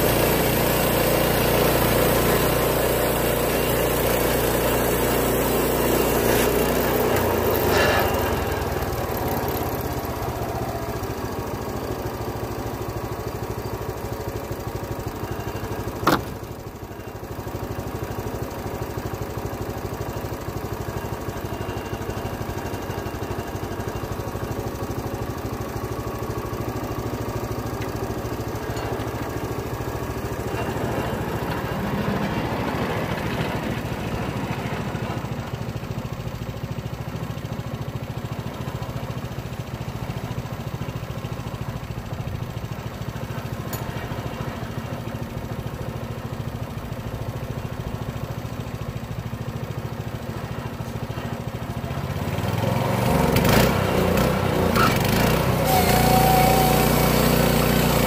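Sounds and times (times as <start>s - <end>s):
small gasoline engine idling: 0.0s - 58.0s.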